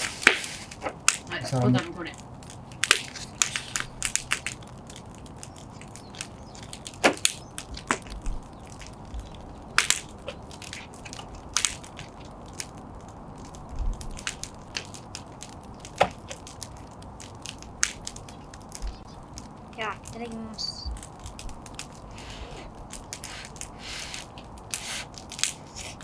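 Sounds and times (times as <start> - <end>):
faint steady background noise: 0.0 - 26.0
wood fire crackling: 0.0 - 26.0.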